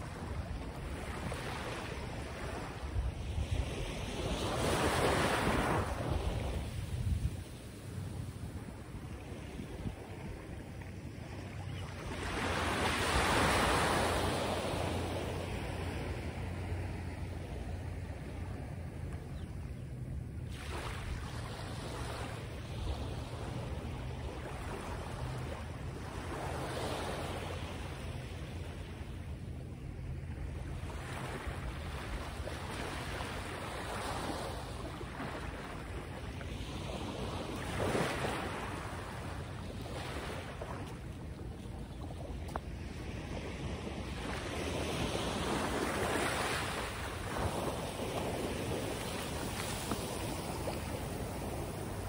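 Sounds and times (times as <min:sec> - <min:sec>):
waves washing: 0:00.0 - 0:52.0
wind buffeting the microphone: 0:00.0 - 0:52.0.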